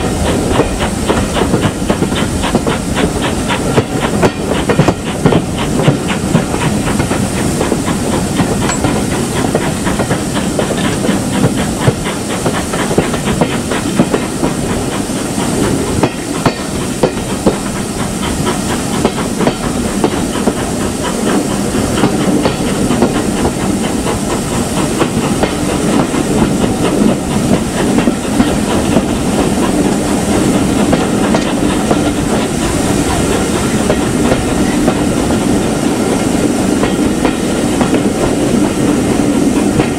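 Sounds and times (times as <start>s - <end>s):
steam hissing: 0.0s - 39.9s
wheels clicking on rails: 0.0s - 39.9s.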